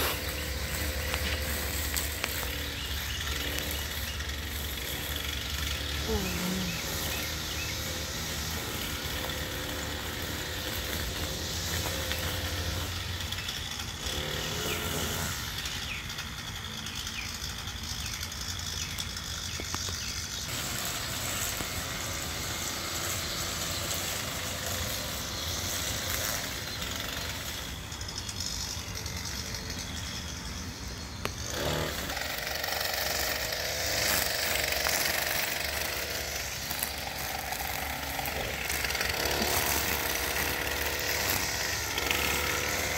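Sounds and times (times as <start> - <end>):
string trimmer cutting grass: 0.0 - 42.9.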